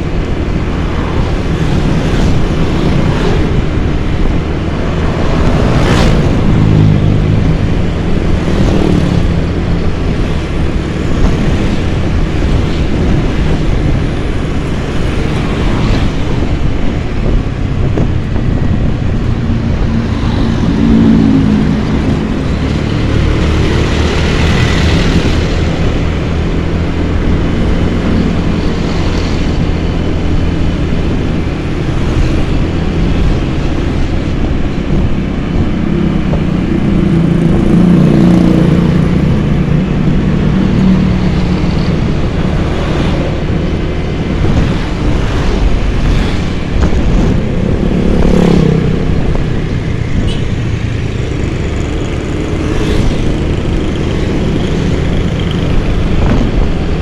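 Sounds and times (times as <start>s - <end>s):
riding wind: 0.0s - 57.0s
road noise: 0.0s - 57.0s.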